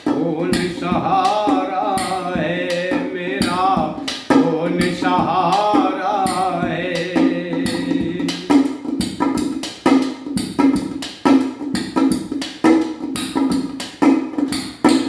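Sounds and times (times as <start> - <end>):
hand drums playing a beat: 0.0 - 15.0.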